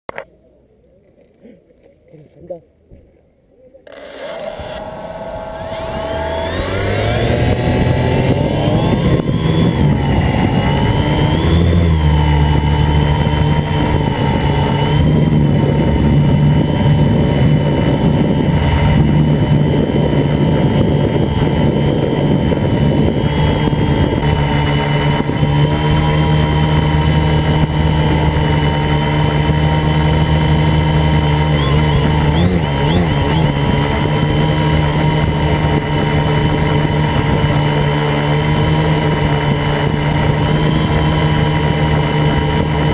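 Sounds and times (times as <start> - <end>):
drone propellers whining: 3.8 - 42.9.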